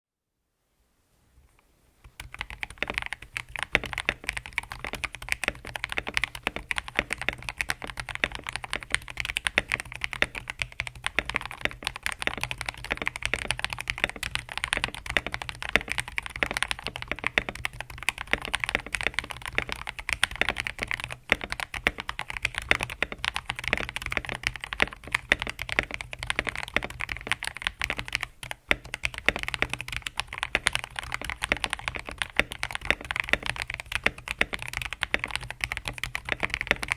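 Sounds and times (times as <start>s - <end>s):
fast typing on mechanical keyboard: 2.2s - 36.9s.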